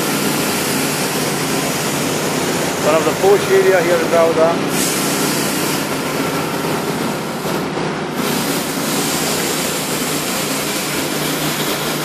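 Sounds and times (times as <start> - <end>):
loud rushing hiss: 0.0 - 12.0.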